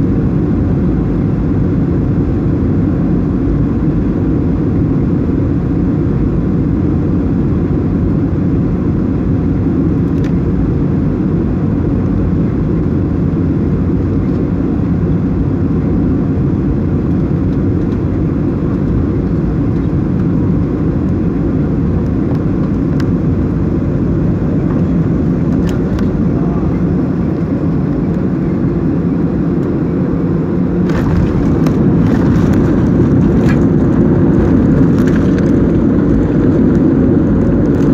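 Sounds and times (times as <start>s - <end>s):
deep rumble of engines and airflow: 0.0s - 37.9s.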